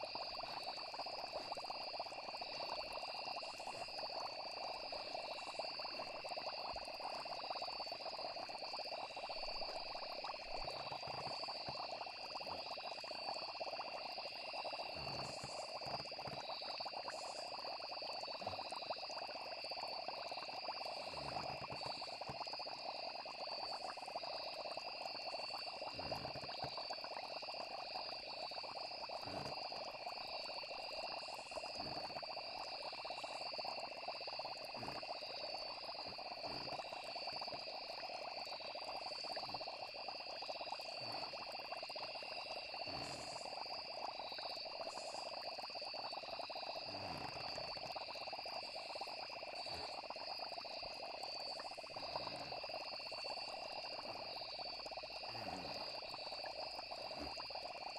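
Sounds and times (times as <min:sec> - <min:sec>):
frogs and insects chirring: 0:00.0 - 0:57.9.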